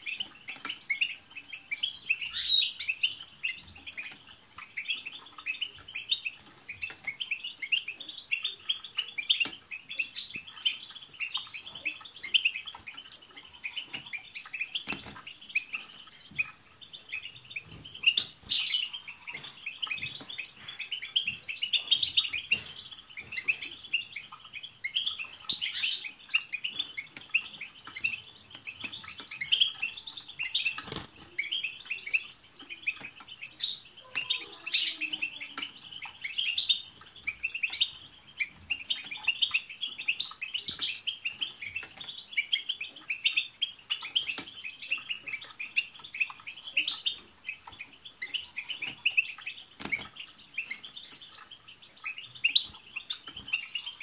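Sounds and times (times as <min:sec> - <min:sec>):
finches twittering and chirping: 0:00.0 - 0:54.0.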